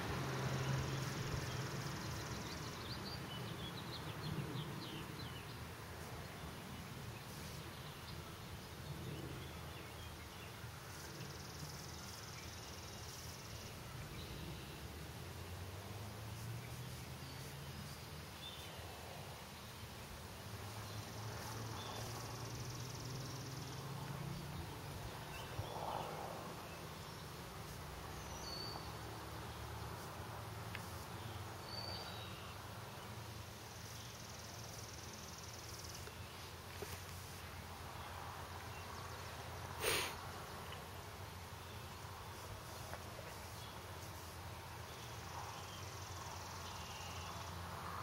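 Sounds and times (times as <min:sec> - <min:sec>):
insects buzzing: 0:00.0 - 0:48.0.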